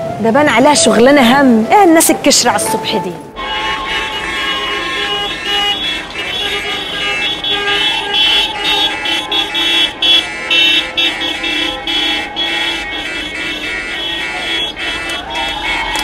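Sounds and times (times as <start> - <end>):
car horns honking: 2.7 - 16.0.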